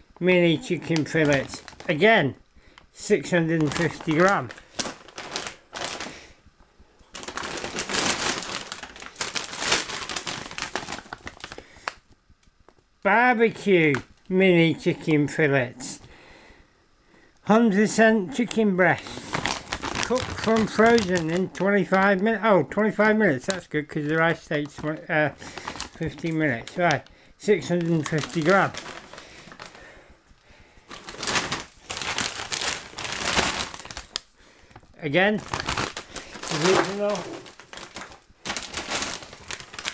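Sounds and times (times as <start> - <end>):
plastic packaging crinkling: 0.0 - 6.4, 7.0 - 12.2, 18.4 - 39.9.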